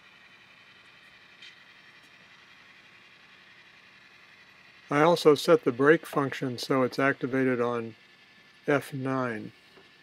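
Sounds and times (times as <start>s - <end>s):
model locomotive diesel engine sound: 0.0s - 10.0s.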